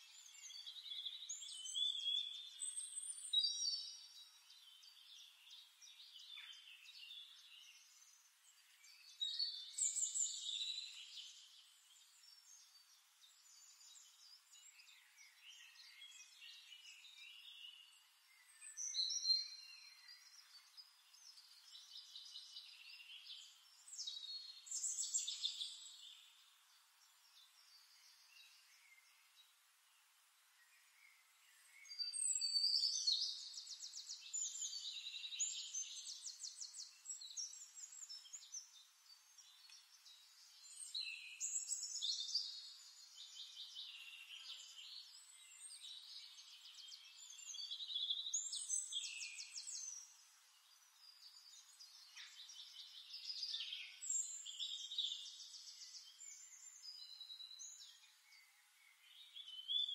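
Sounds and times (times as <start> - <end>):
bird song with fast high trills: 0.0 - 59.9.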